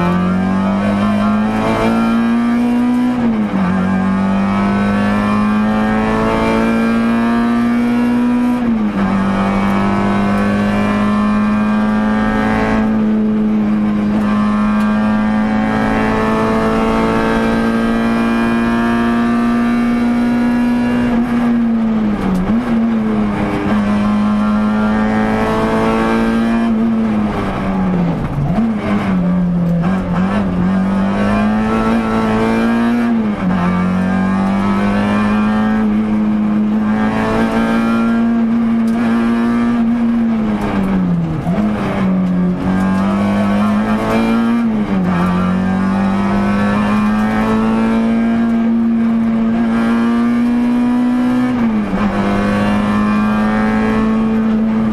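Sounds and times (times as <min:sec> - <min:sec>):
rally car engine running hard: 0:00.0 - 0:54.9.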